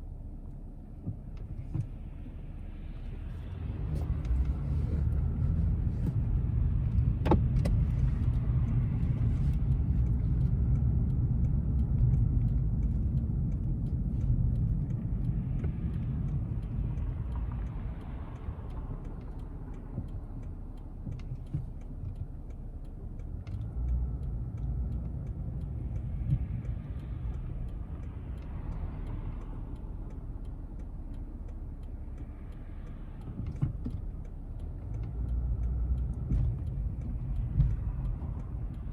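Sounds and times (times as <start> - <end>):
car engine and road noise: 0.0 - 38.9
click: 6.9 - 38.9.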